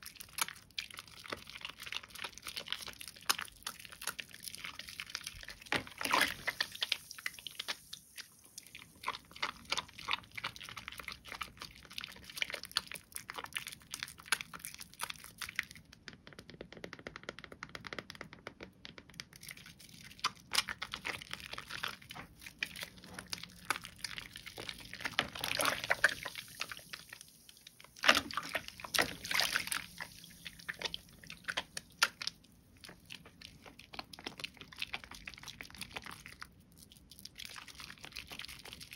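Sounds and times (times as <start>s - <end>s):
wet soap squelching: 0.0s - 16.0s, 19.2s - 38.9s.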